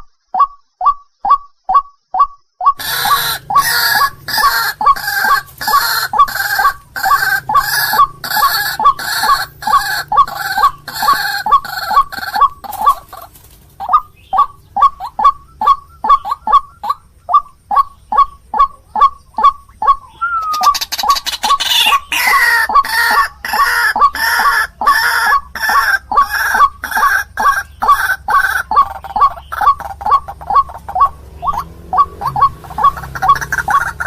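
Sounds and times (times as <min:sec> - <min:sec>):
waterhens croaking calls: 0:00.4 - 0:34.0.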